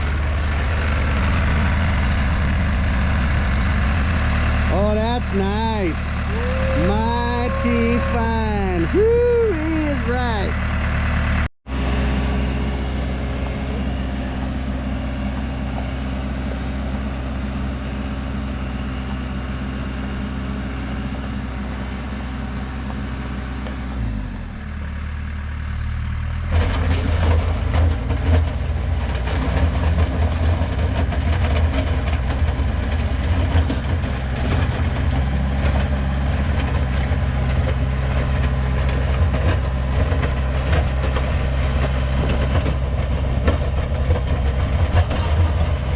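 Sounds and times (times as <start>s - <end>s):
heavy equipment engine running: 0.0s - 45.9s.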